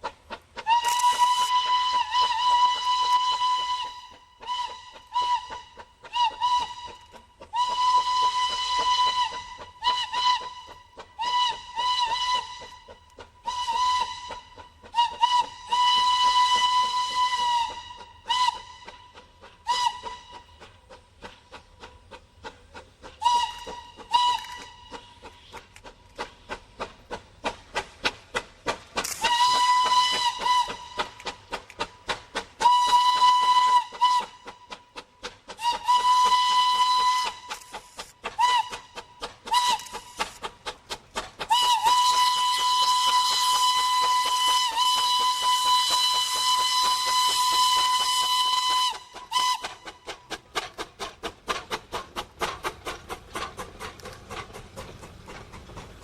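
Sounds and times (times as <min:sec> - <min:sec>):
locomotive exhaust chuffing: 0:00.0 - 0:56.0
steam locomotive whistle: 0:00.6 - 0:21.0, 0:23.1 - 0:26.9, 0:29.0 - 0:40.5, 0:41.4 - 0:50.6.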